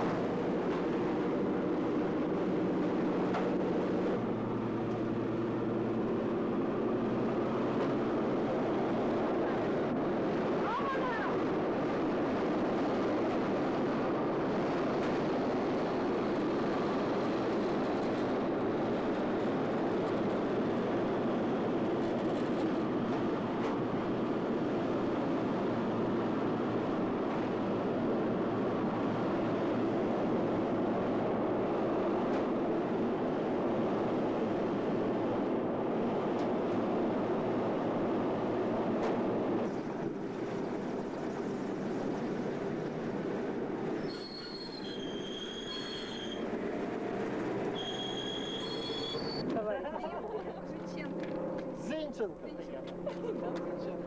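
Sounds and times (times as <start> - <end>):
propeller aircraft cabin drone: 0.0 - 54.0.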